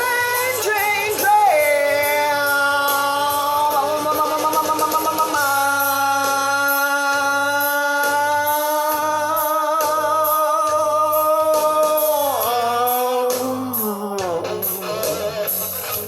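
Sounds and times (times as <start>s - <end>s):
man singing high wailing note: 0.0s - 15.5s
drum and bass beat: 0.0s - 16.0s.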